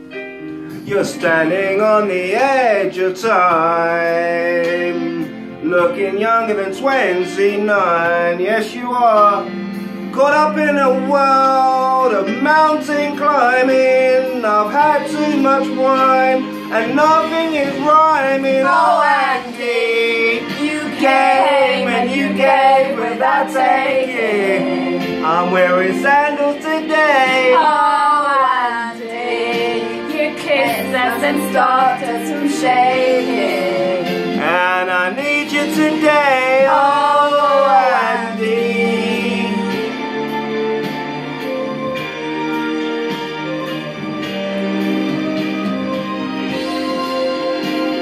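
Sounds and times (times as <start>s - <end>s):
instrumental backing music: 0.0s - 48.0s
man and woman singing: 0.8s - 9.5s, 10.2s - 40.0s.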